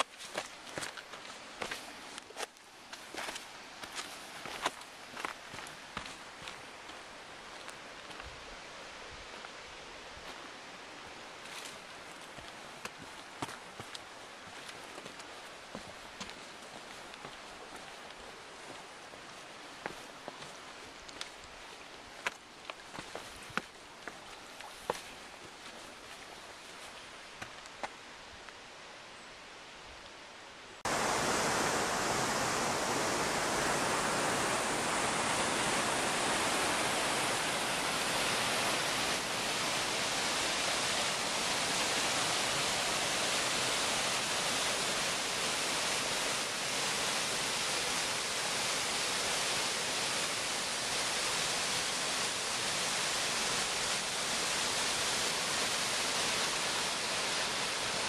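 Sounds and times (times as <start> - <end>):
creek rushing over rocks: 0.0 - 28.4, 30.8 - 58.0.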